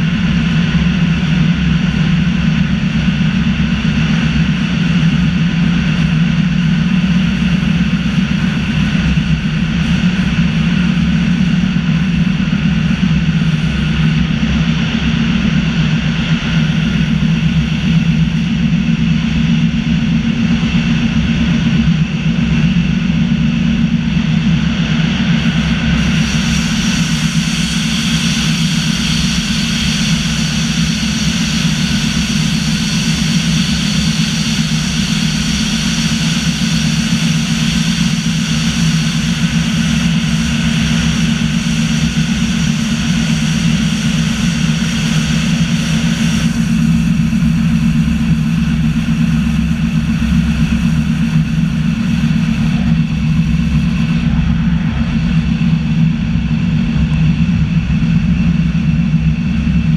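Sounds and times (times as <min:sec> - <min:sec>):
electric train rumbling on track: 0:00.0 - 0:59.9
electric whine: 0:05.0 - 0:59.9.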